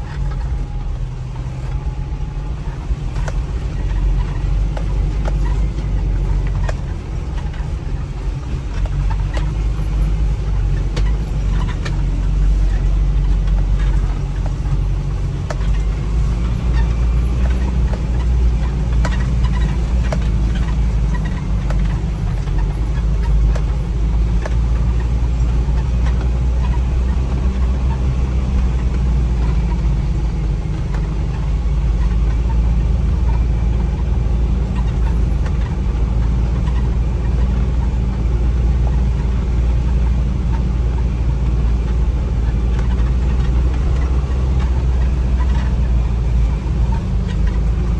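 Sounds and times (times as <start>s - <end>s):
small rattles and clicks: 0.0s - 47.9s
vehicle engine and road noise: 0.0s - 47.9s.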